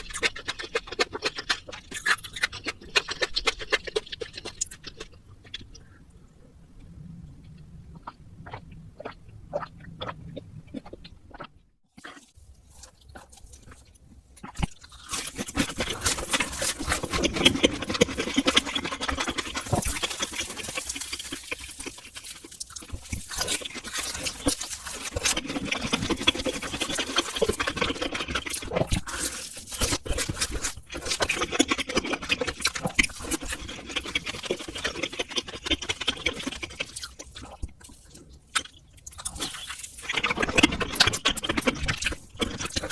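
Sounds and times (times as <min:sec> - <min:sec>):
slurping and chewing noodles: 0:00.0 - 0:06.1, 0:06.9 - 0:42.9.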